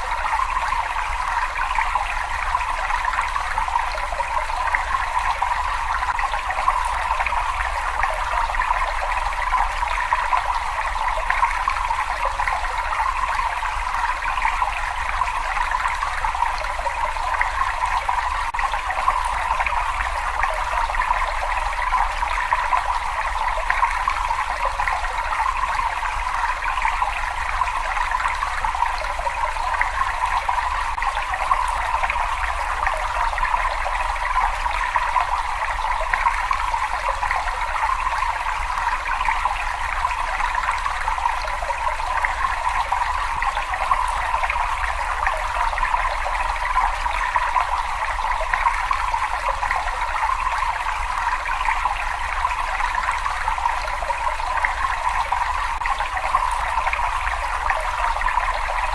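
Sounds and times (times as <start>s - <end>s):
water running in a cave: 0.0s - 58.9s.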